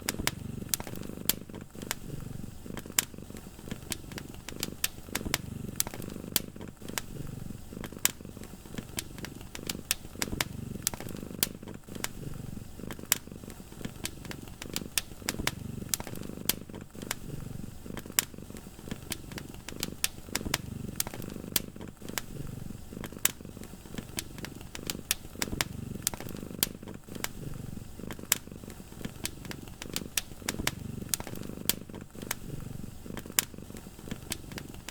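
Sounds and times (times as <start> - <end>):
cat purring: 0.0 - 34.9
fire crackling and popping: 0.0 - 34.9.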